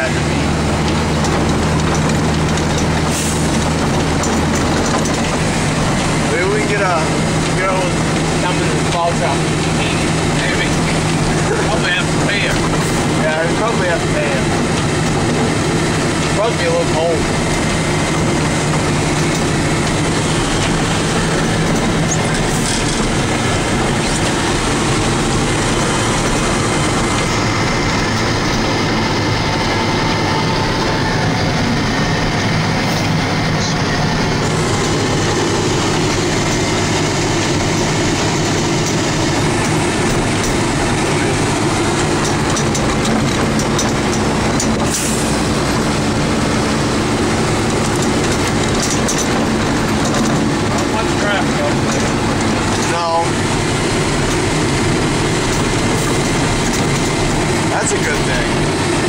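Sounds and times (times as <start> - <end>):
diesel truck engine under load: 0.0 - 59.0
plow rattling pushing snow: 0.0 - 59.0.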